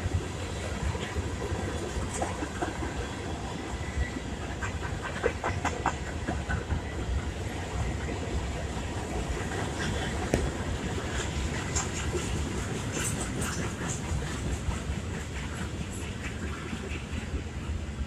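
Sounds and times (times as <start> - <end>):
train clicks and clanks: 0.0 - 18.0
train wheels rumbling on rail: 0.0 - 18.0.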